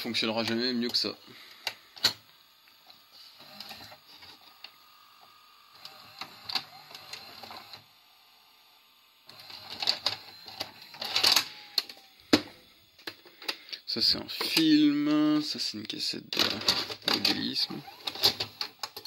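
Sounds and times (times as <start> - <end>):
tape mechanism whirring and clicking: 0.0 - 13.7, 16.3 - 19.0.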